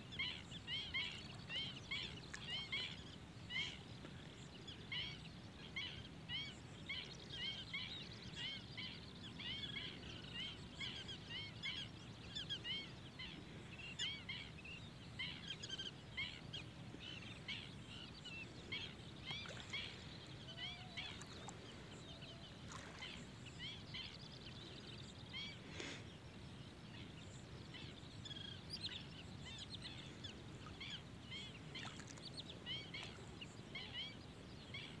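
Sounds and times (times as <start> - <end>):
flock of birds chirping: 0.0 - 35.0
low steady background noise: 0.0 - 35.0.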